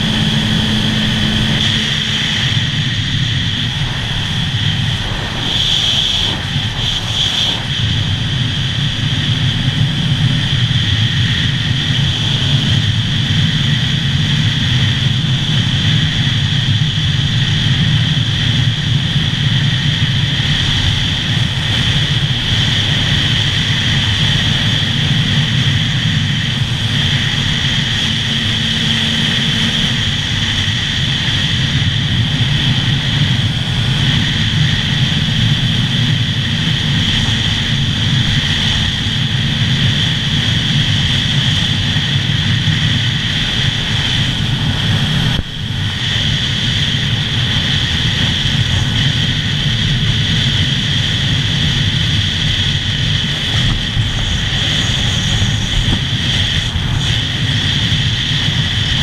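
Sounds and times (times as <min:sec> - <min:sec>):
motorcycle engine cruising: 0:00.0 - 0:59.0
wind rush: 0:00.0 - 0:59.0.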